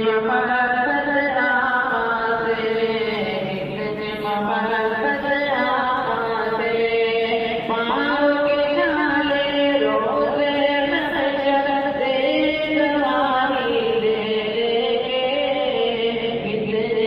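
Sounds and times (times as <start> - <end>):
person singing long held notes: 0.0 - 17.0.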